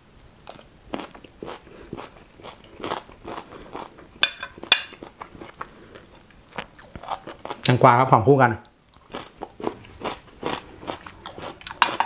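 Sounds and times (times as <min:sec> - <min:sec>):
chewing crunchy food: 0:00.5 - 0:07.9, 0:08.6 - 0:12.0.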